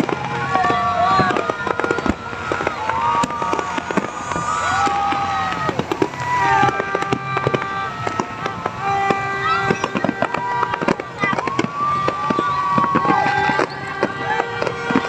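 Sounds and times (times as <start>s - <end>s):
fireworks bangs and crackles: 0.0s - 15.0s
whistling fireworks: 0.0s - 15.0s.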